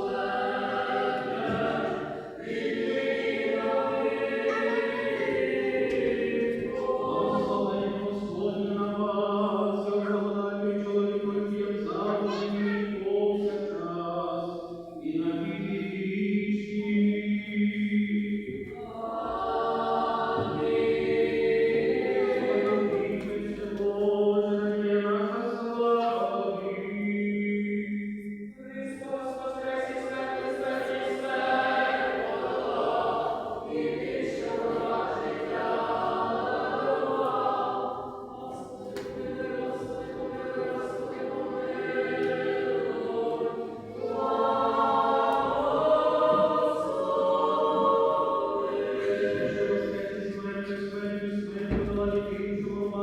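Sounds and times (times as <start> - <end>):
choir chanting unaccompanied: 0.0 - 53.0.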